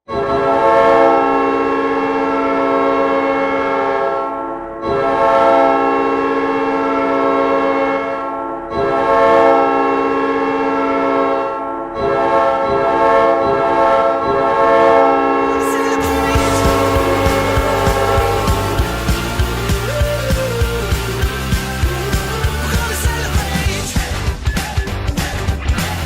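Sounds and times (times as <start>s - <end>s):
hockey goal horn blasts: 0.2s - 21.6s.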